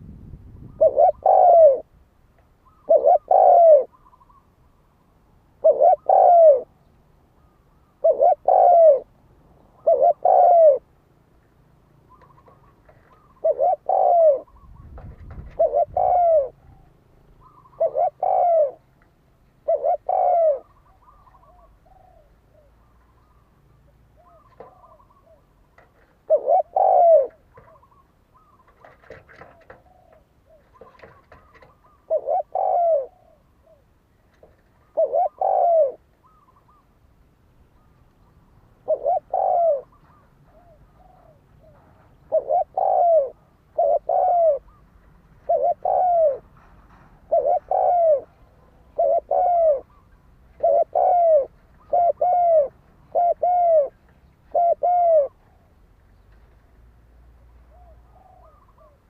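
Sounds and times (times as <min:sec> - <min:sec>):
dove cooing: 0:00.0 - 0:04.8, 0:05.5 - 0:10.9, 0:11.9 - 0:37.0, 0:37.7 - 0:56.3, 0:57.4 - 0:59.0.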